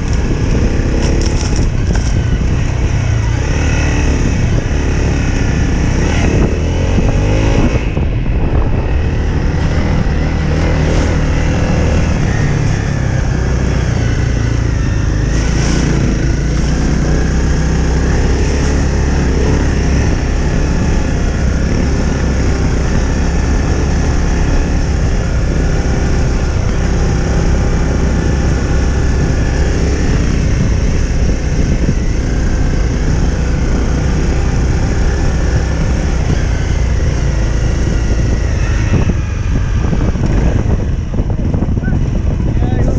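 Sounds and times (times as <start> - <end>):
motorcycle engine rumbling: 0.0 - 42.9.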